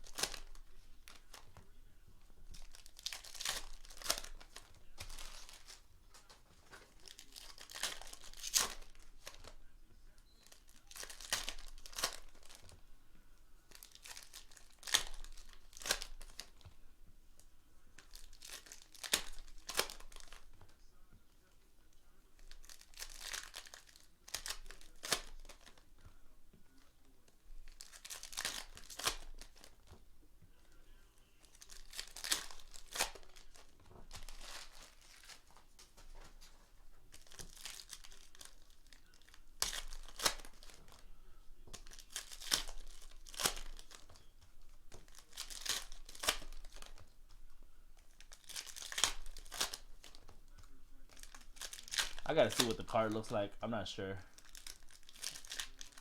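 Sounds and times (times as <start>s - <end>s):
foil wrappers tearing and crinkling: 0.0s - 1.8s, 2.4s - 12.8s, 13.7s - 16.8s, 18.0s - 20.8s, 22.3s - 26.0s, 27.6s - 30.0s, 31.4s - 53.4s, 54.2s - 56.0s.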